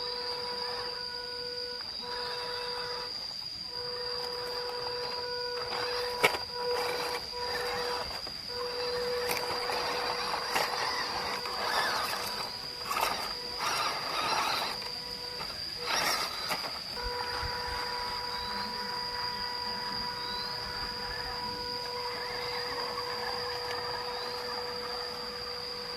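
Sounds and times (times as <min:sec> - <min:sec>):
electric motor whine: 0:00.0 - 0:25.9
toy truck driving over rough ground: 0:00.0 - 0:25.9.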